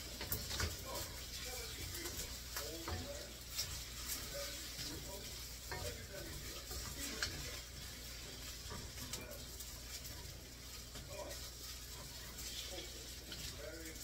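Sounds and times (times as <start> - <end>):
noodles sizzling in a wok: 0.0 - 14.0
wooden spatula scraping metal pan: 0.0 - 14.0.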